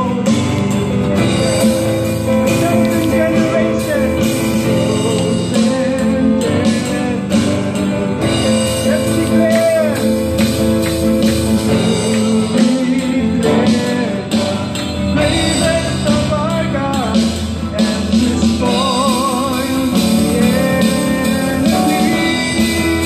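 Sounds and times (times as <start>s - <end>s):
man singing with vibrato: 0.0s - 23.0s
strummed acoustic guitar: 0.0s - 23.0s
sustained keyboard chords: 0.0s - 23.0s.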